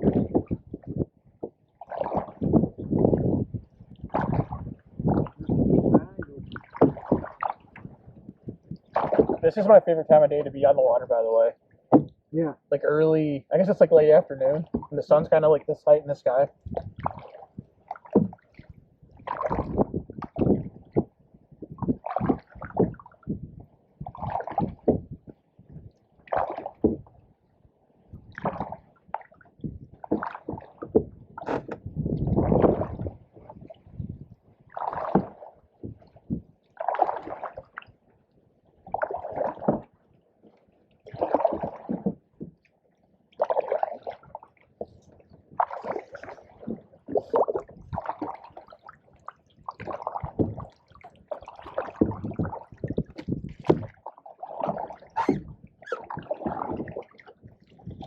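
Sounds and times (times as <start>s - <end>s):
paddle splashing in water: 0.0s - 12.3s, 13.6s - 27.3s, 27.9s - 58.0s.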